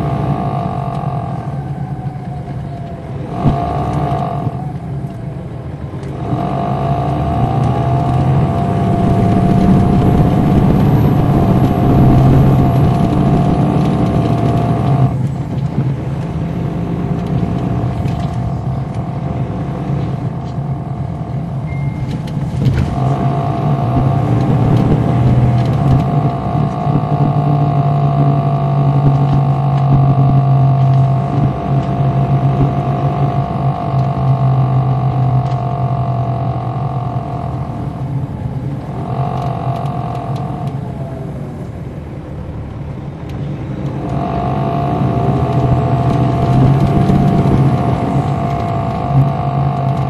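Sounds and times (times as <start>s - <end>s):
diesel engine low drone: 0.0s - 50.0s
engine whine: 0.0s - 50.0s.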